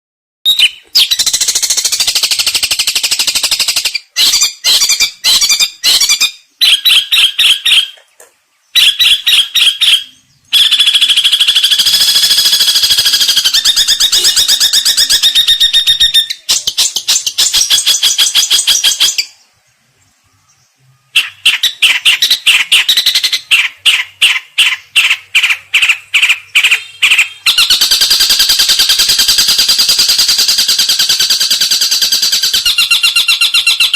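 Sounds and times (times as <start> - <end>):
bird singing harsh chattering trills: 0.5 - 8.0, 8.6 - 33.9.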